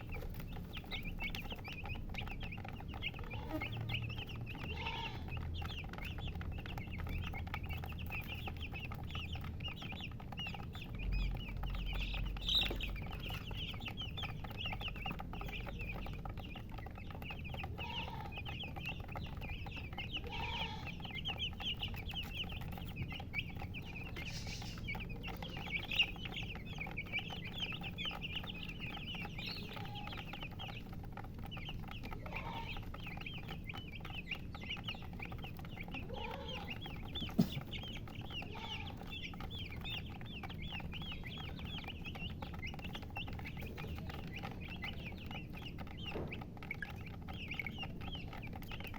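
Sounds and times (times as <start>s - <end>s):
baby chicks peeping: 0.0s - 48.9s
hen clucking: 0.0s - 48.9s.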